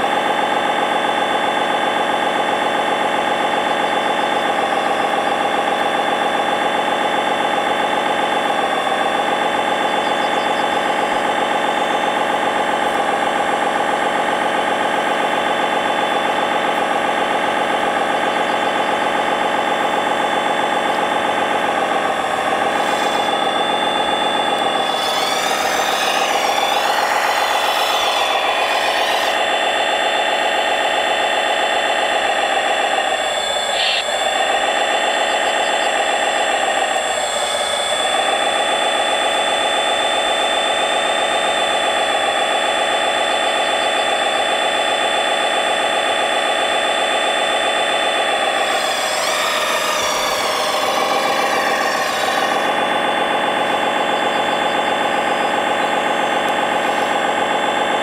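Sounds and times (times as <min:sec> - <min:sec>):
toy machine mechanical drone: 0:00.0 - 0:58.0
wavering high whine: 0:00.0 - 0:58.0.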